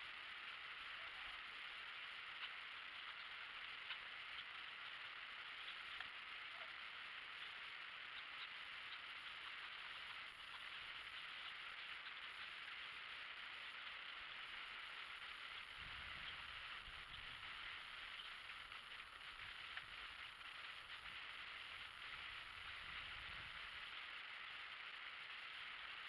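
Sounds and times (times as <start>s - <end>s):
faint outdoor hiss: 0.0s - 26.0s.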